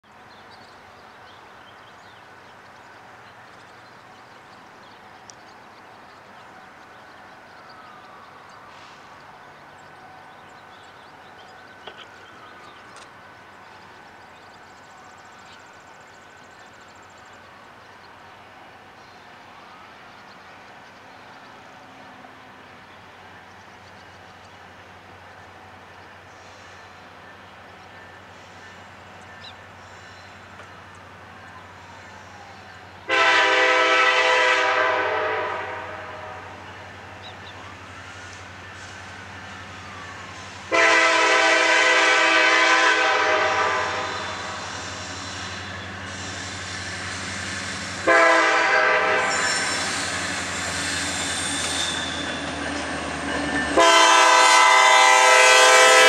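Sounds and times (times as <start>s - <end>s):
distant freight locomotives rumbling: 0.0s - 56.0s.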